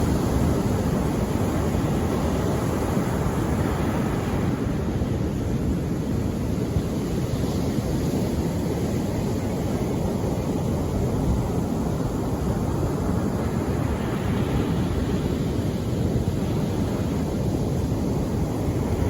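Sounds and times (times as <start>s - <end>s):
rumbling wash of surf: 0.0s - 19.0s.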